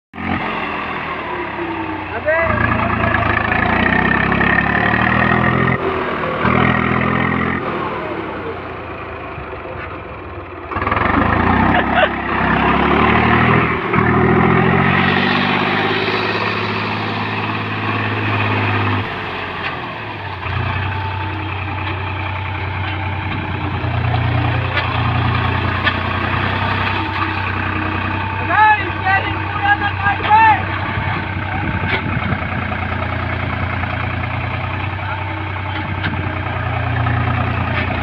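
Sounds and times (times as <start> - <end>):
tractor engine revving hard: 0.2 - 38.0.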